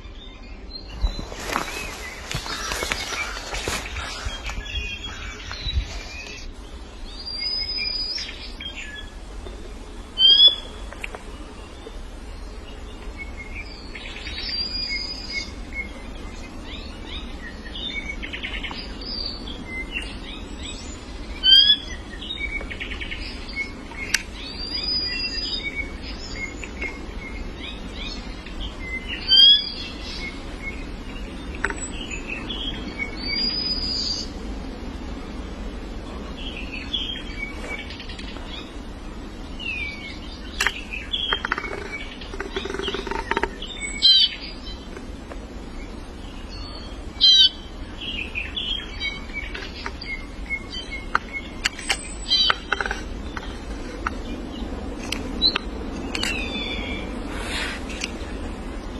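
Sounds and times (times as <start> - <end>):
birds chirping and calling: 0.0 - 34.5, 36.2 - 58.9
steady low background noise: 0.0 - 58.9.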